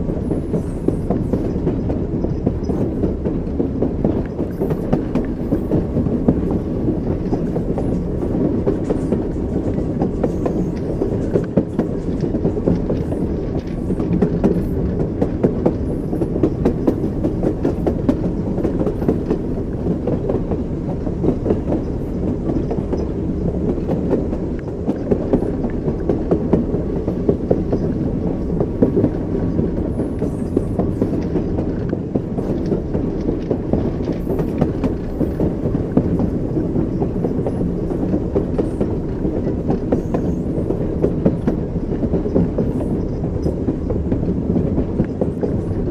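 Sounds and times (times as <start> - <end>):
railway carriage low rumble: 0.0 - 45.9
train wheels clickety-clack: 0.0 - 45.9.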